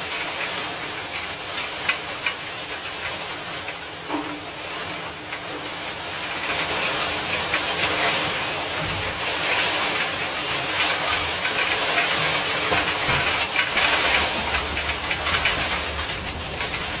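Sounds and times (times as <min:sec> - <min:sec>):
hailstones ticking on hard surfaces: 0:00.0 - 0:17.0
heavy rain hiss: 0:00.0 - 0:17.0.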